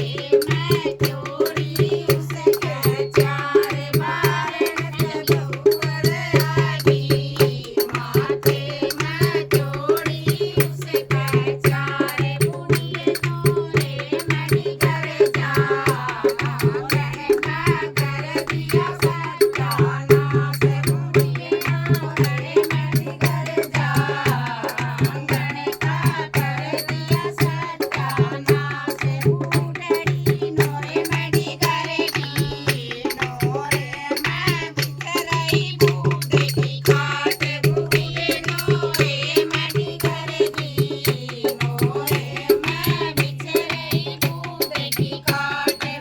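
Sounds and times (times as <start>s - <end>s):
rattling hand percussion: 0.0s - 46.0s.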